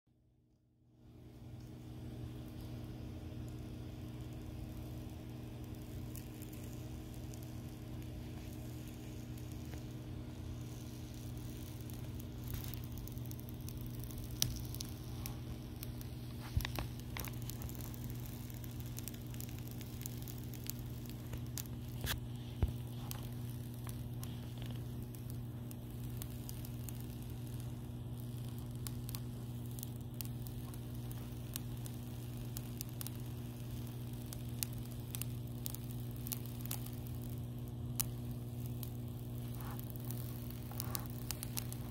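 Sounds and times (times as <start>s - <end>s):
steady low hum: 0.3s - 41.9s
plastic film peeling with crackles: 3.4s - 41.9s.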